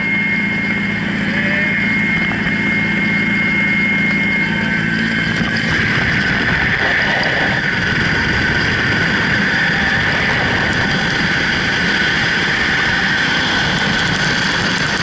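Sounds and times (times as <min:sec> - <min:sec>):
wind buffeting microphone: 0:01.8 - 0:15.0.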